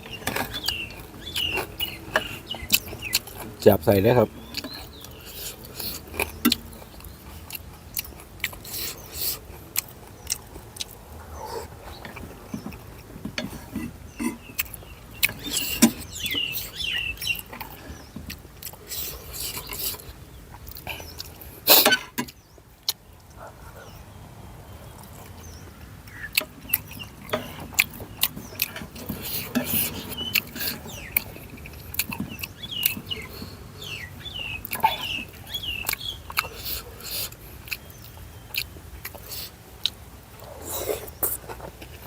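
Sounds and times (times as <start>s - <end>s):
chewing and slurping noodles: 0.0s - 24.0s, 24.8s - 42.0s.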